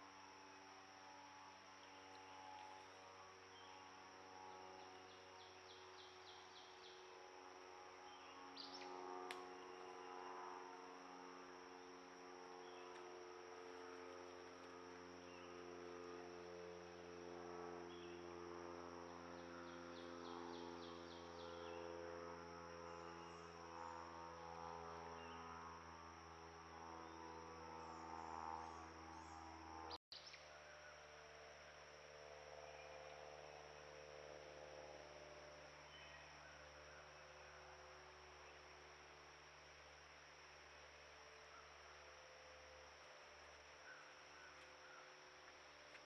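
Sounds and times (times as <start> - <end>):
faint insect chirps: 0.0 - 46.0
high insect drone: 0.0 - 46.0.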